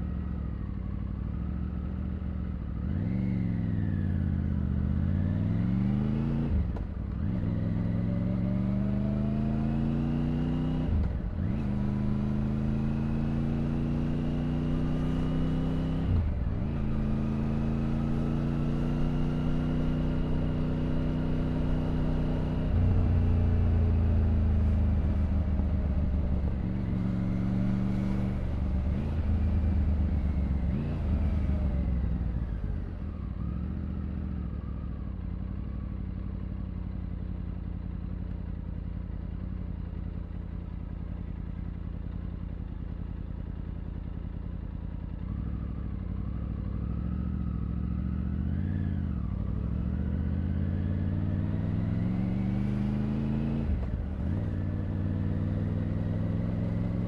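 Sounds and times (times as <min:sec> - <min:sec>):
motorcycle engine accelerating: 0:01.3 - 0:57.0.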